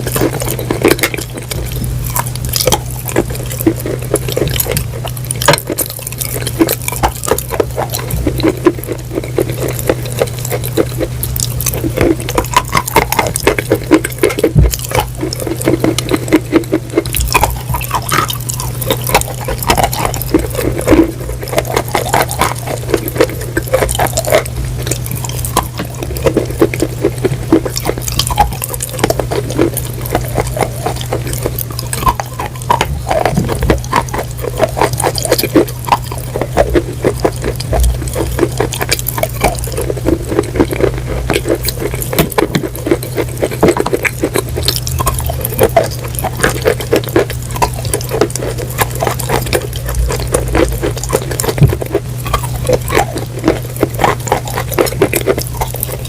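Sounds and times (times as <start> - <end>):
chewing and crunching: 0.0 - 56.0
low hum: 0.0 - 56.0
wet mouth sounds: 0.0 - 56.0.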